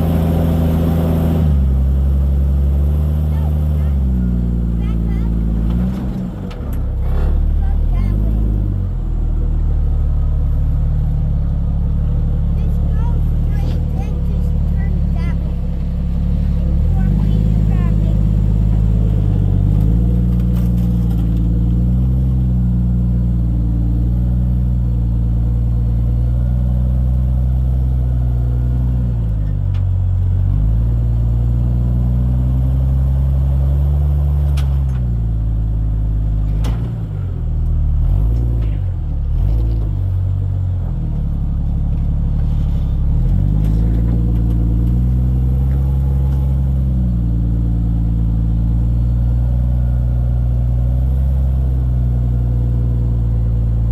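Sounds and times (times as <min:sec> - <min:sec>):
car engine at low revs: 0:00.0 - 0:53.9.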